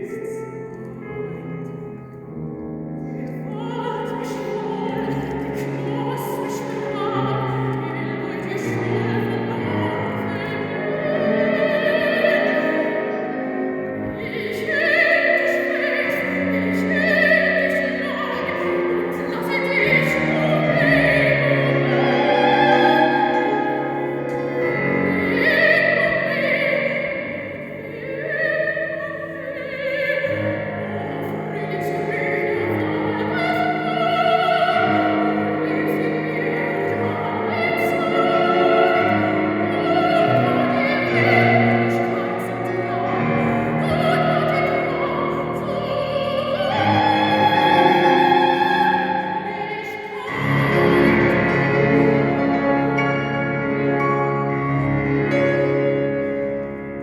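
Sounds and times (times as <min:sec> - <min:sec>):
woman singing operatically: 0:03.2 - 0:53.4.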